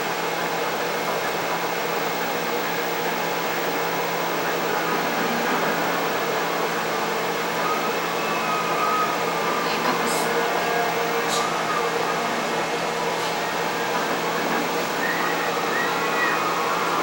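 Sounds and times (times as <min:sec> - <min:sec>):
fan-like mechanical whir: 0:00.0 - 0:17.0.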